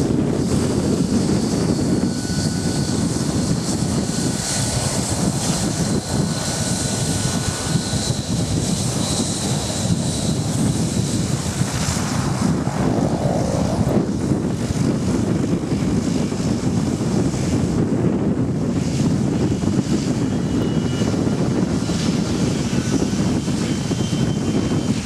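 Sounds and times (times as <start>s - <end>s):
jet engines rumbling: 0.0s - 25.0s
wind buffeting microphone: 0.0s - 25.0s.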